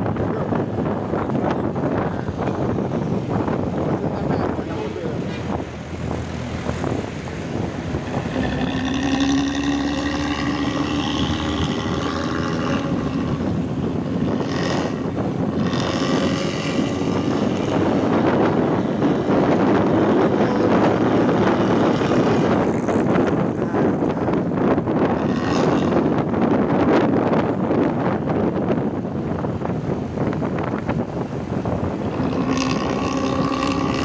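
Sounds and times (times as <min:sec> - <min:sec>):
diesel bus engine with loud exhaust: 0:00.0 - 0:34.0.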